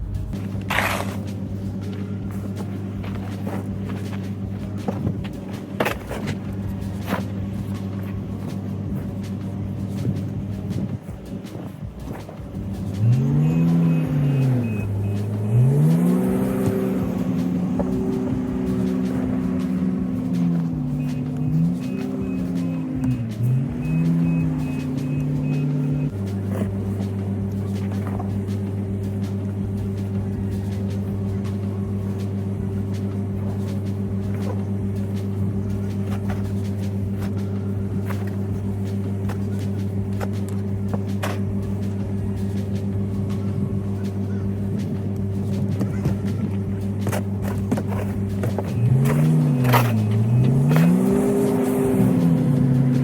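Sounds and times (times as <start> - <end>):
bulldozer engine revving: 0.0 - 11.0, 12.0 - 53.0.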